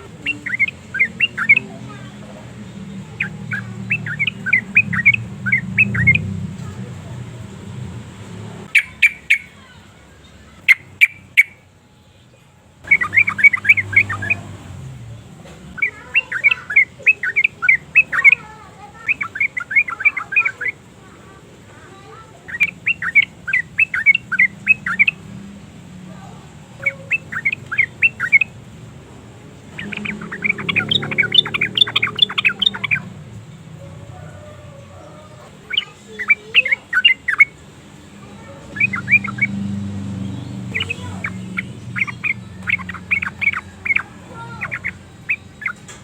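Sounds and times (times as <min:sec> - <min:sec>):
bird chattering song: 0:00.0 - 0:11.7, 0:12.8 - 0:46.0.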